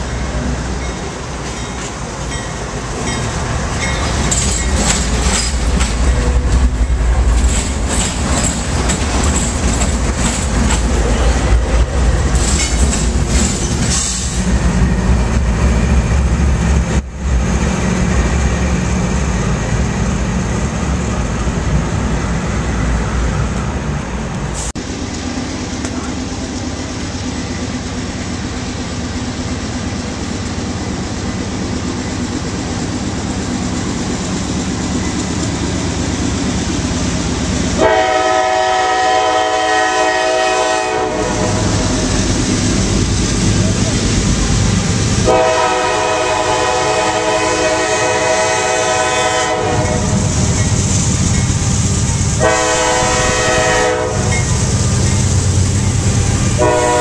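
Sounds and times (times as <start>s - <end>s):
diesel locomotive engine rumble: 0.0s - 57.0s
train wheels clicking on rails: 0.0s - 57.0s.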